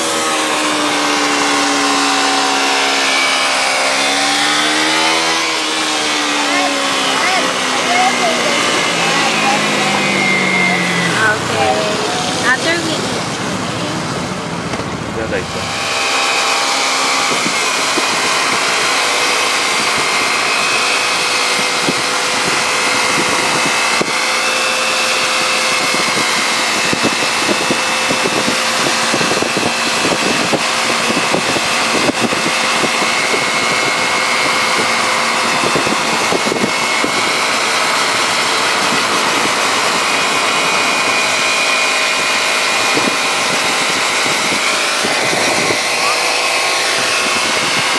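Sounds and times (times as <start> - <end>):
road and wind noise: 0.0 - 47.9
vehicle engine running: 0.0 - 47.9.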